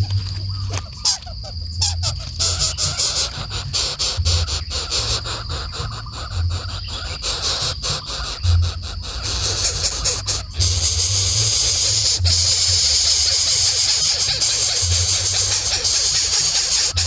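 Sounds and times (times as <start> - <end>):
insects chirring high: 0.0 - 17.0.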